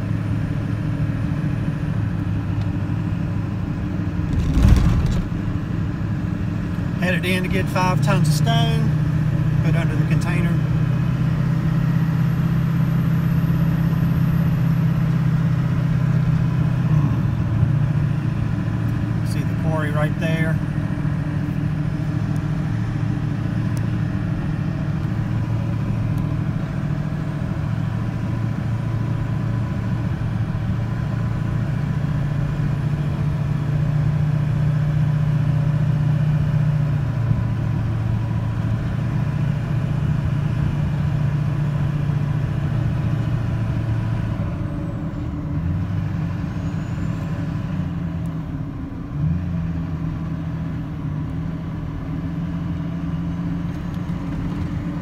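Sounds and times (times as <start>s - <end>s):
road noise: 0.0s - 55.0s
truck engine hum: 0.0s - 55.0s.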